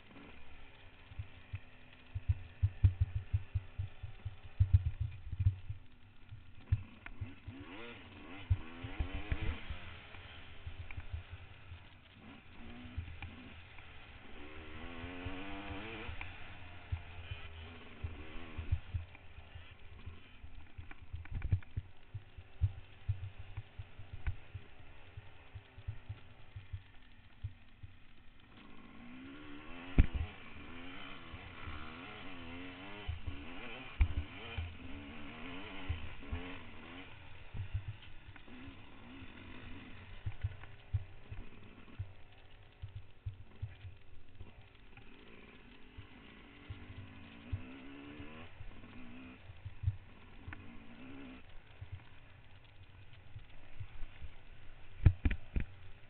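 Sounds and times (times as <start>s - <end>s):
motorcycle engine revving: 0.0s - 56.0s
motorcycle engine running: 0.0s - 56.0s.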